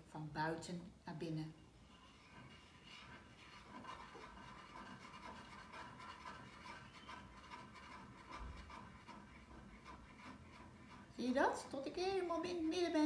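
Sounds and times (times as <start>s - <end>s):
crayon scratching on paper: 1.9s - 13.0s.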